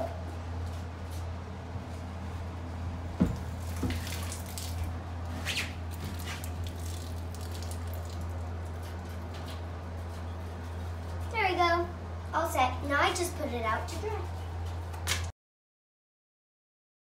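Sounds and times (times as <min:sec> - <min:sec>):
air conditioner humming: 0:00.0 - 0:15.3.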